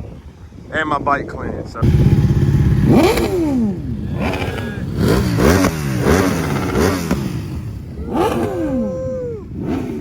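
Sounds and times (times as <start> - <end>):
motorcycle engines revving: 1.8 - 10.0.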